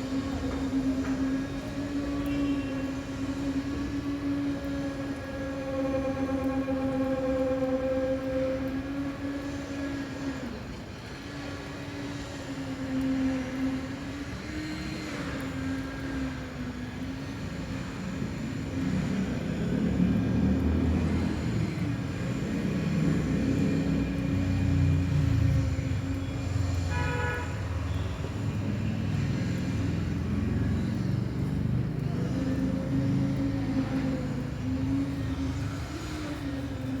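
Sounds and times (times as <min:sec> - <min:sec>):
concrete mixer humming: 0:00.0 - 0:37.0.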